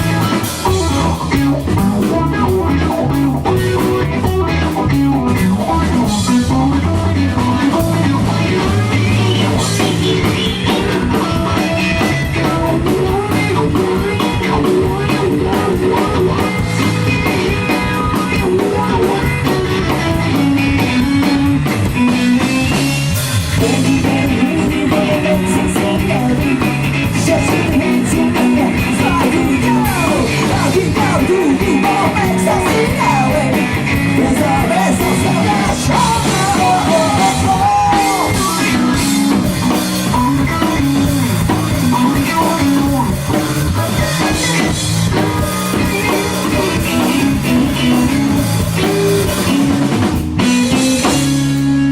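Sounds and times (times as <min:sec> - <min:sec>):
bass guitar: 0:00.0 - 0:51.9
drums: 0:00.0 - 0:51.9
electric guitar: 0:00.0 - 0:51.9
melodic lead line: 0:00.0 - 0:51.9.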